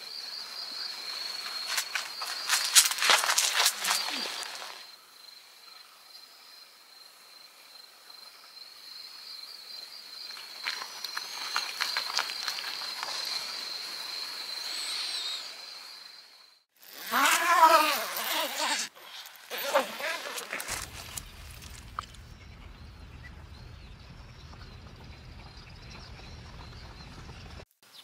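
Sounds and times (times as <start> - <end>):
crickets trilling: 0.0 - 27.5.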